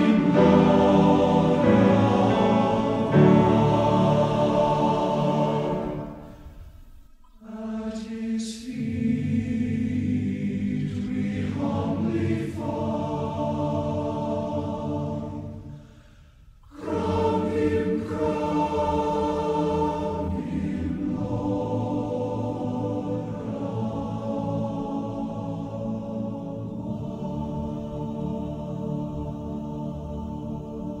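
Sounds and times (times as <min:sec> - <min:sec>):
choir singing held chords: 0:00.0 - 0:31.0.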